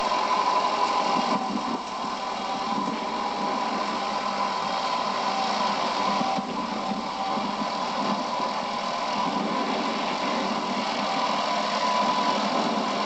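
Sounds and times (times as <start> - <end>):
constant whine: 0.0 - 13.0
tractor engine running: 0.0 - 13.0.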